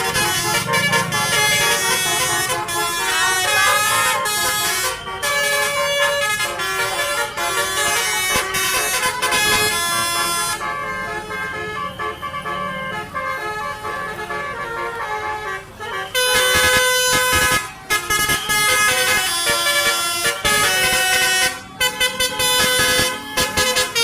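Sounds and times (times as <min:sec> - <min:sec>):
multi-tone musical air horn: 0:00.0 - 0:24.0.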